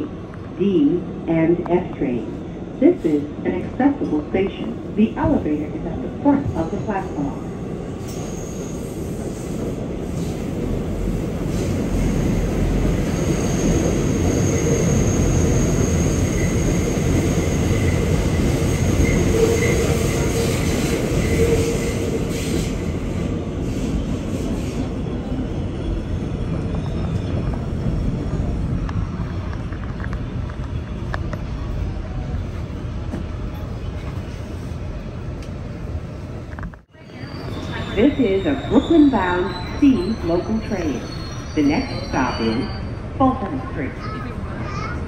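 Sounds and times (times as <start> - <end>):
train wheel and track running noise: 0.0 - 45.0.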